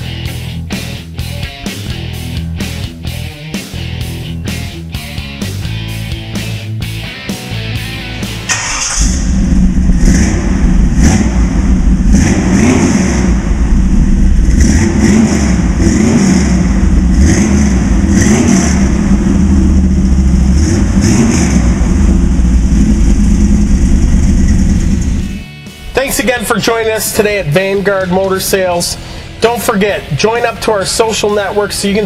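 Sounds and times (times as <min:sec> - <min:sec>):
car engine rumbling and revving: 0:00.0 - 0:32.0.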